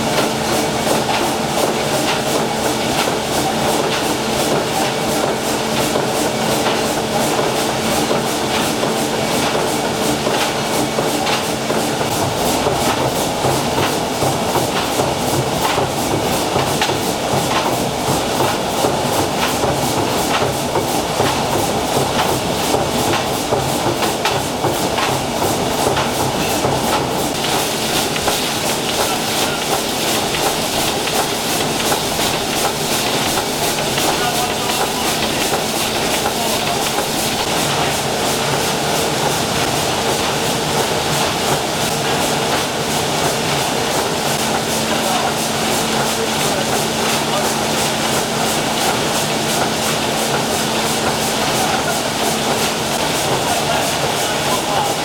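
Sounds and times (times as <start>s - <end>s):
steam engine mechanical clatter: 0.0s - 55.0s.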